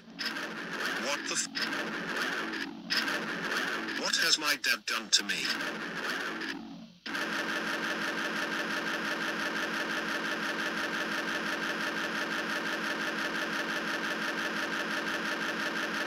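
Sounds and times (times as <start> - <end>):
film projector clatter: 0.0 - 4.2, 5.5 - 16.0.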